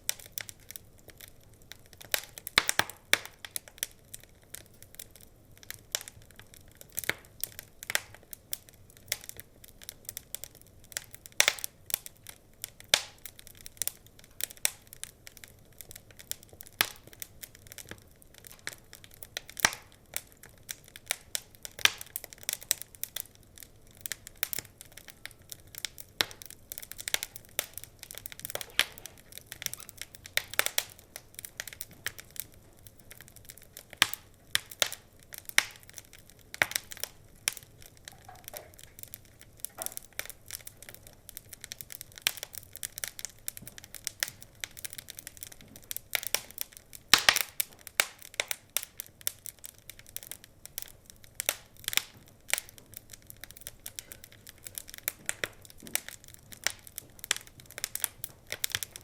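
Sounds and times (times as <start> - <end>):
faint low hiss: 0.0 - 59.0
wood fire crackling and popping: 0.0 - 59.0.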